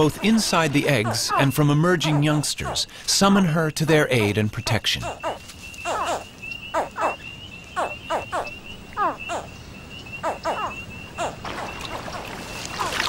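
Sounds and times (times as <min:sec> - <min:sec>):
alligator hatchlings chirping: 0:00.0 - 0:12.1.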